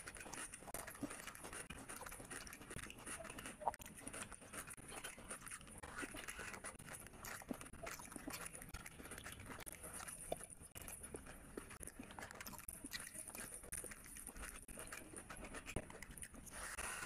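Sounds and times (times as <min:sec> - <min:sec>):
wet chewing and lip smacking: 0:00.0 - 0:17.0.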